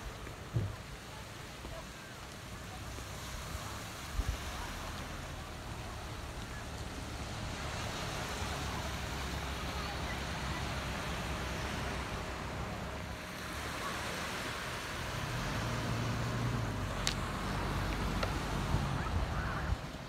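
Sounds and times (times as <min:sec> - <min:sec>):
distant road traffic: 0:00.0 - 0:20.0
low engine hum: 0:00.0 - 0:20.0
wind: 0:00.0 - 0:20.0.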